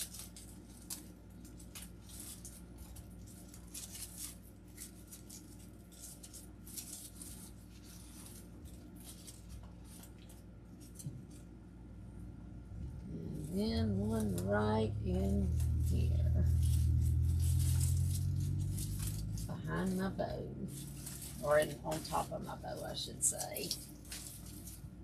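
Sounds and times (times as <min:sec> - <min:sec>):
artificial flower stems rustling: 0:00.0 - 0:25.0
faint steady hum: 0:00.0 - 0:25.0.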